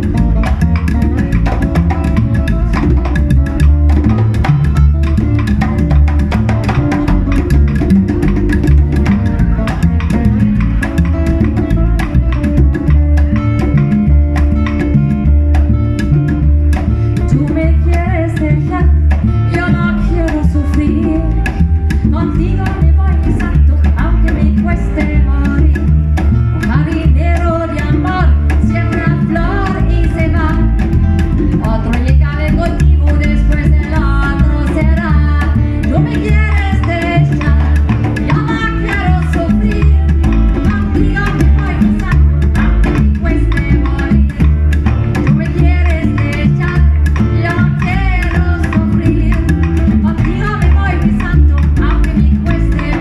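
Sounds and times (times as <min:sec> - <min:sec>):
bass: 0:00.0 - 0:53.0
hand percussion: 0:00.0 - 0:53.0
plucked guitar: 0:00.0 - 0:53.0.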